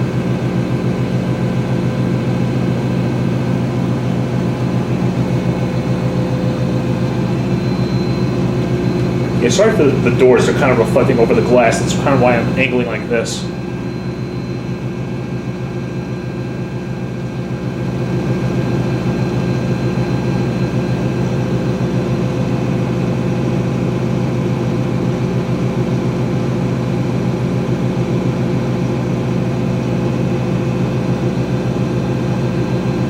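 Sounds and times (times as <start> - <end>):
washer spinning hum: 0.0 - 33.0.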